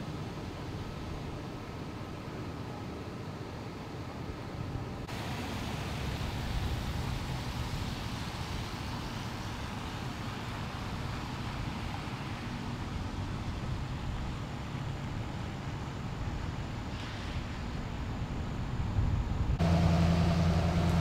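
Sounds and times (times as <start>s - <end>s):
low traffic-like rumble: 0.0s - 21.0s.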